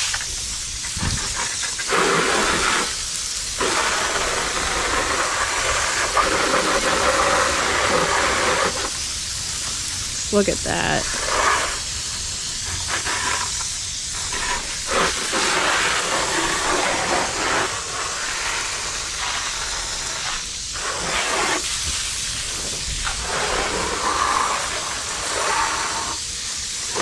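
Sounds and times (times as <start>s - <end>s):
hose water spraying: 0.0s - 27.0s.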